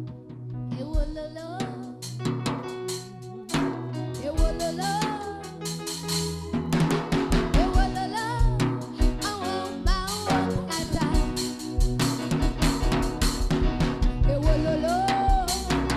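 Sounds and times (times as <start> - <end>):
drum kit steady beat: 1.0 - 15.9
held low bass notes: 2.2 - 15.9.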